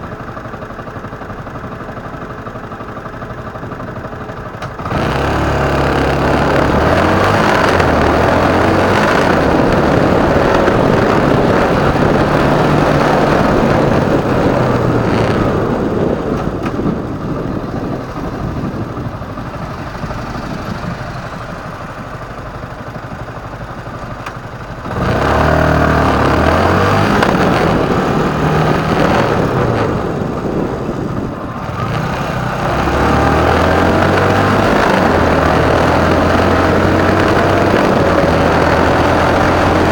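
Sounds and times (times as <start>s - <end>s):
motorcycle engine shifting gears: 0.0s - 39.9s
wind and road noise: 0.0s - 39.9s.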